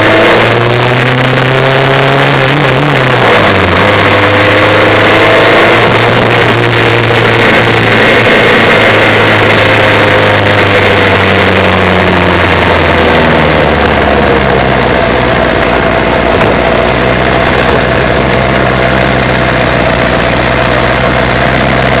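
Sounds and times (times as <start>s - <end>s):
racing engine slowing to idle: 0.0s - 22.0s.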